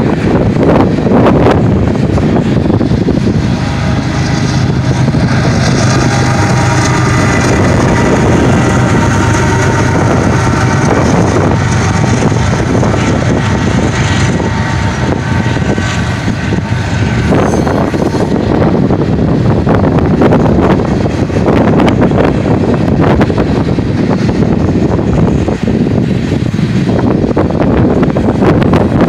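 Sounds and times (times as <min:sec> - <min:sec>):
locomotive engine humming: 0:00.0 - 0:29.0
wind on microphone: 0:00.0 - 0:29.0.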